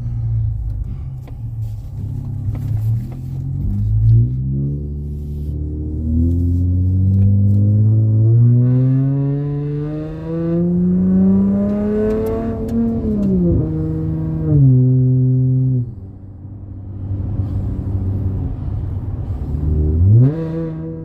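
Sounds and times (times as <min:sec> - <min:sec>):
car exhaust accelerating: 0:00.0 - 0:21.0.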